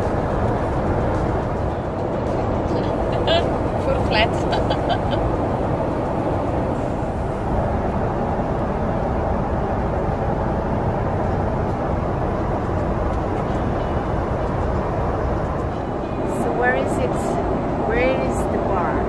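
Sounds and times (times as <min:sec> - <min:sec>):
airliner cabin noise: 0:00.0 - 0:19.0.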